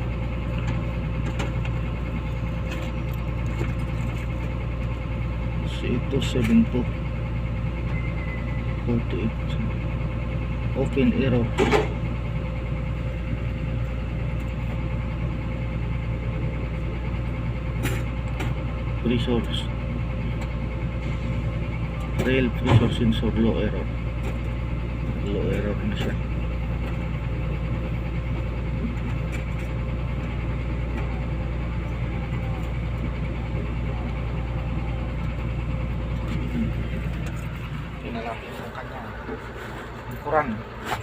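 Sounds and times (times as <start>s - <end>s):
engine idling: 0.0s - 41.0s
faint constant whine: 0.0s - 41.0s.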